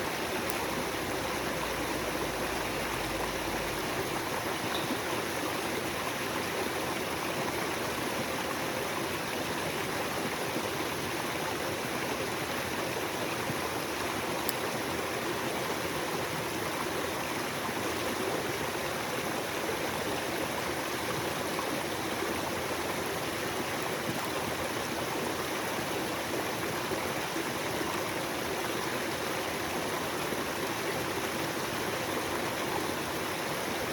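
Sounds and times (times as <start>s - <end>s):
small stream flowing: 0.0s - 33.9s.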